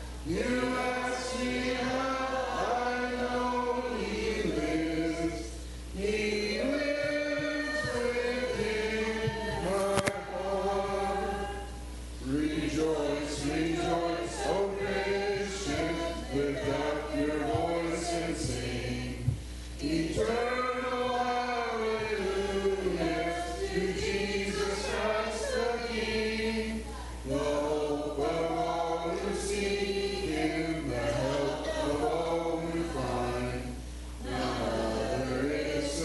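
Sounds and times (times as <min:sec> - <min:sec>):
congregation singing a hymn: 0:00.0 - 0:36.0.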